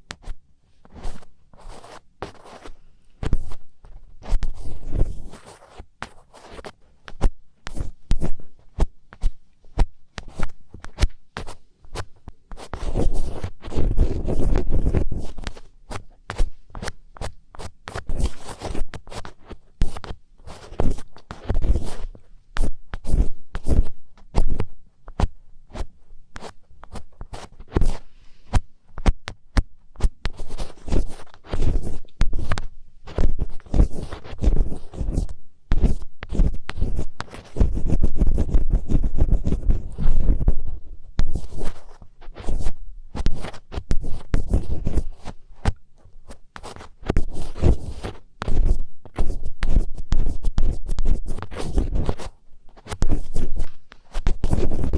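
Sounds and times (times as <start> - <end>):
scratching against microphone: 0.1 - 54.9.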